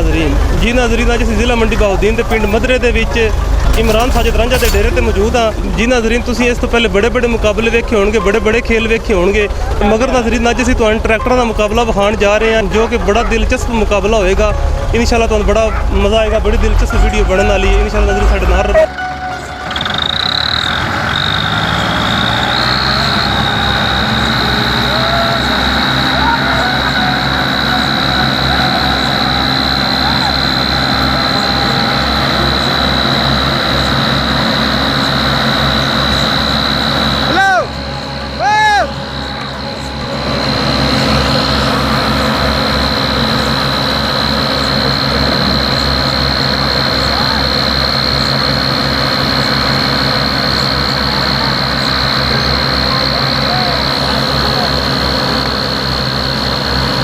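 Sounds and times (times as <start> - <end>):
high steady whine: 0.0 - 57.0
steady high tone: 0.0 - 57.0
tractor diesel engines running: 0.0 - 57.0.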